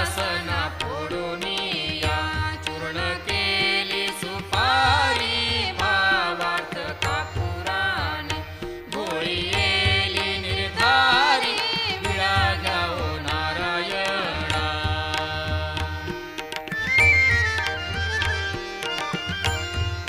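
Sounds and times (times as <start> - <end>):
person singing devotional song: 0.0 - 16.7
instrumental accompaniment: 0.0 - 20.0.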